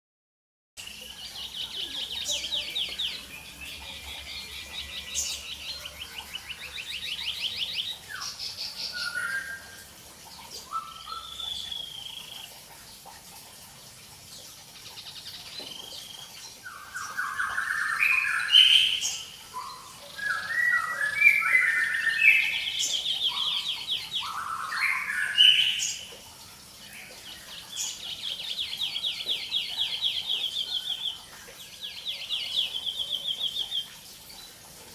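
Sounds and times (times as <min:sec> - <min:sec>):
bird singing rattling trills: 0:00.8 - 0:12.6, 0:14.7 - 0:34.6.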